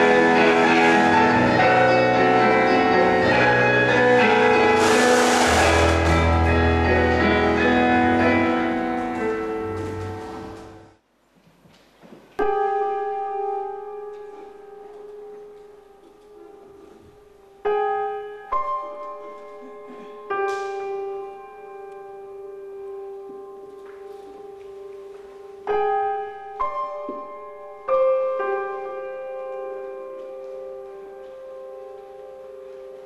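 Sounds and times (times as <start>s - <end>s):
slow solo piano: 0.0s - 11.0s, 12.4s - 33.0s.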